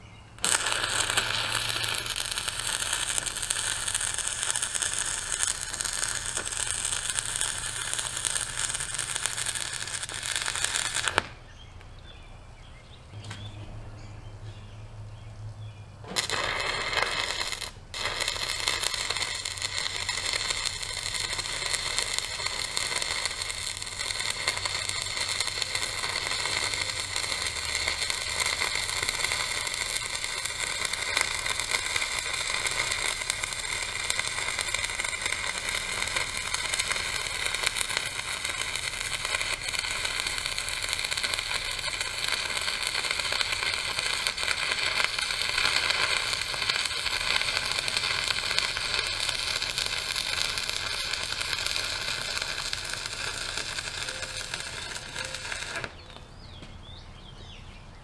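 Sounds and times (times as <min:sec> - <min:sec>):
welding arc crackling and hissing: 0:00.0 - 0:11.4, 0:16.1 - 0:56.2.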